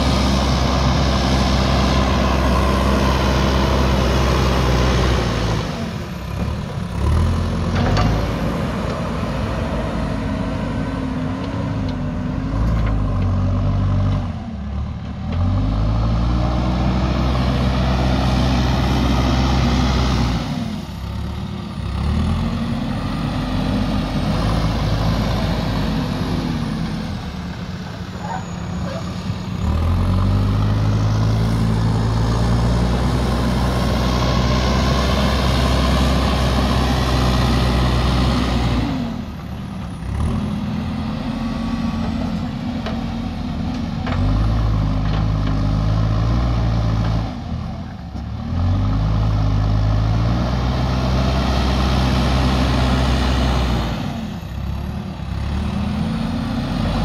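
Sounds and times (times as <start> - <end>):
diesel engine revving under load: 0.0 - 57.0.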